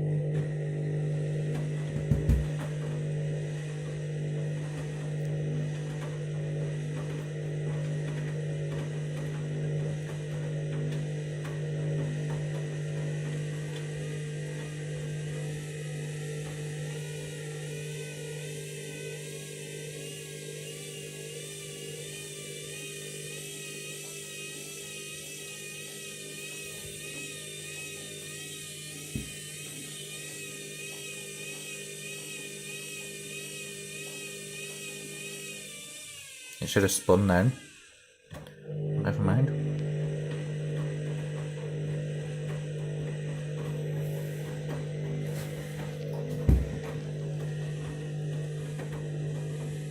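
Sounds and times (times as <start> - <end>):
washing machine motor humming: 0.0 - 49.9.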